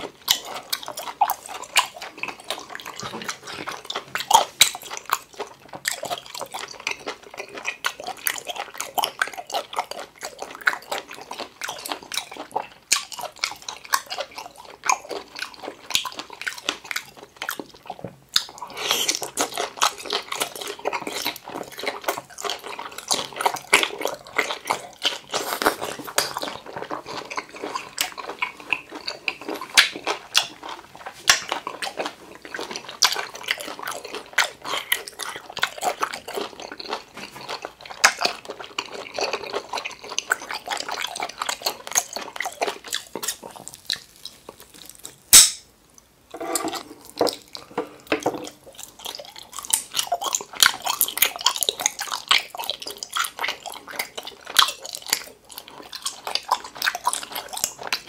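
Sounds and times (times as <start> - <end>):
wet chewing and slurping: 0.0 - 45.4, 46.3 - 58.0.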